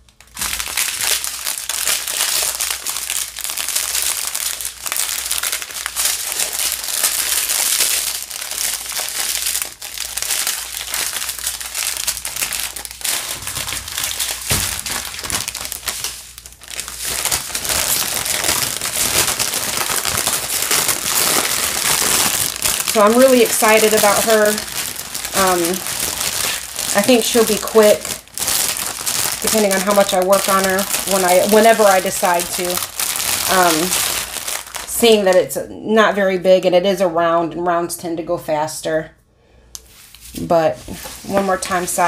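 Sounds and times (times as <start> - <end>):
plastic bags crinkling: 0.0 - 35.5, 40.1 - 42.0.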